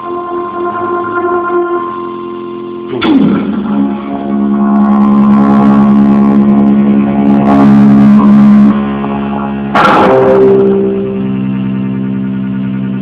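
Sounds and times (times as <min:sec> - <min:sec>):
effects-processed chord ringing: 0:00.0 - 0:13.0.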